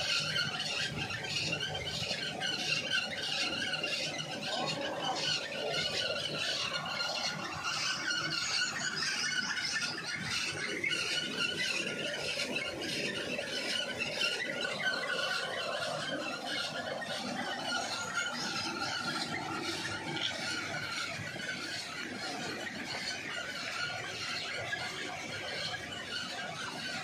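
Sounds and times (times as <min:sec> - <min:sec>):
high-pitched belt squeal: 0:00.0 - 0:26.7.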